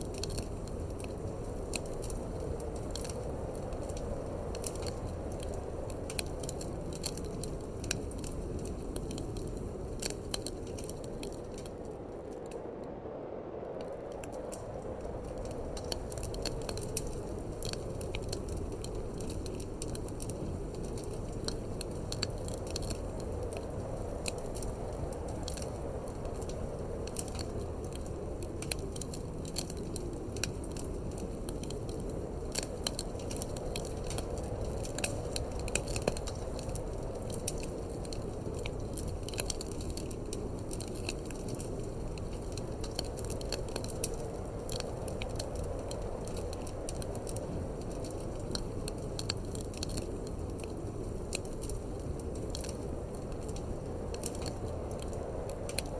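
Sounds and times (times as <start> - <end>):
low rumble of wind: 0.0 - 55.9
wood fire crackling and popping: 0.0 - 55.9.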